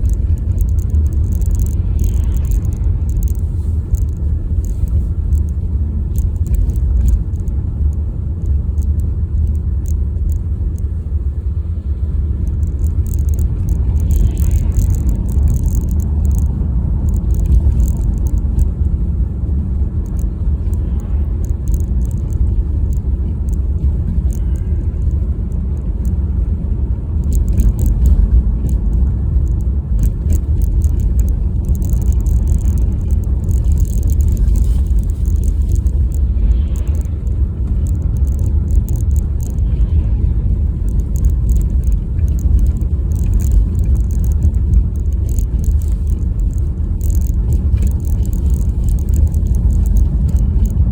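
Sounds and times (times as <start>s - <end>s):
faint crackling: 0.0s - 11.0s, 11.6s - 26.2s, 27.2s - 50.9s
car engine and tyres rumbling: 0.0s - 50.9s.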